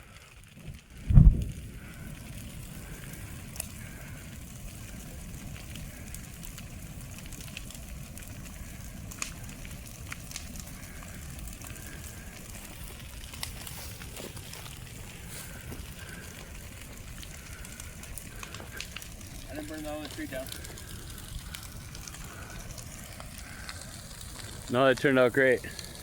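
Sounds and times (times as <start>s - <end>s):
fire crackling and popping: 0.0s - 26.0s
low fire rumble: 0.0s - 26.0s.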